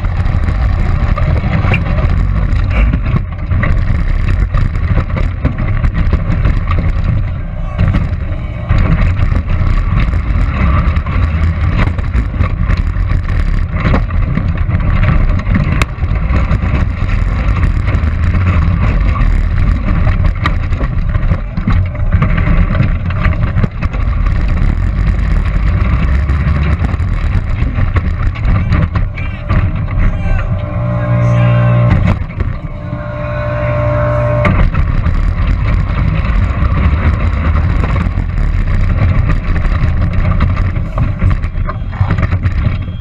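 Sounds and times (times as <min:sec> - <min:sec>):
knocks and rattles: 0:00.0 - 0:43.0
robot motors rumbling: 0:00.0 - 0:43.0.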